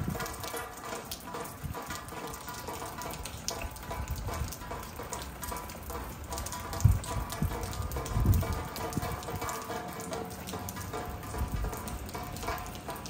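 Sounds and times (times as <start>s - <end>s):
rain on foliage and roof: 0.0s - 13.0s.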